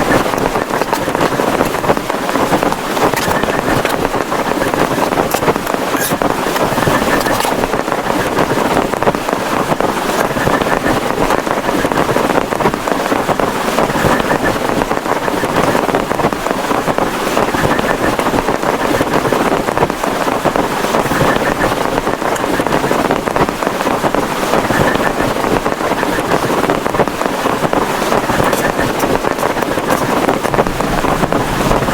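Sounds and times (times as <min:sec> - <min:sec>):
heavy rain on a tarpaulin: 0:00.0 - 0:31.9
wind: 0:00.0 - 0:31.9.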